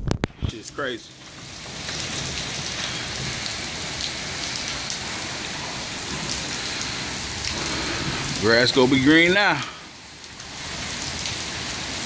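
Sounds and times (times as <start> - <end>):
heavy rain pouring on street: 0.2 - 12.0.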